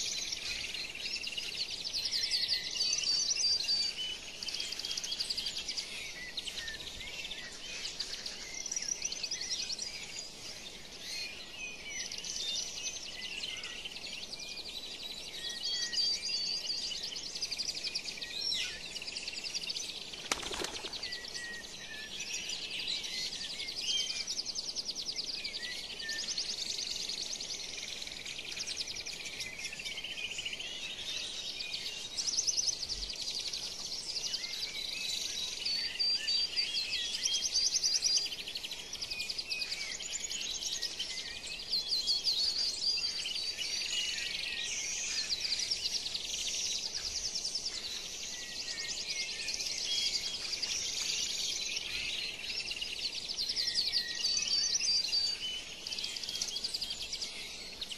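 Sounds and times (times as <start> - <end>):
birds chirping and trilling: 0.0 - 57.9.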